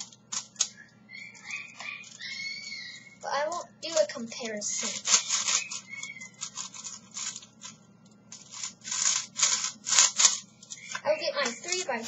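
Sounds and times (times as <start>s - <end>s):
puzzle cube turning: 0.0s - 0.8s, 1.4s - 12.0s.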